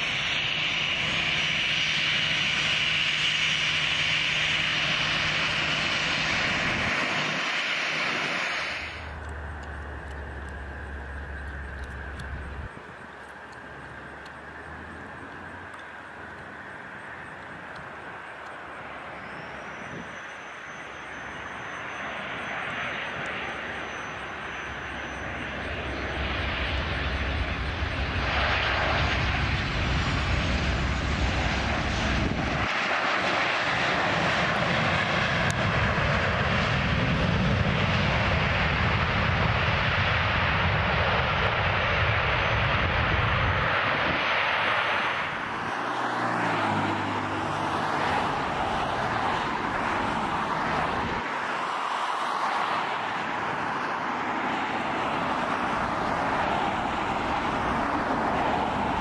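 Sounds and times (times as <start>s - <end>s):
jet engines of landing airliner: 0.0s - 59.0s.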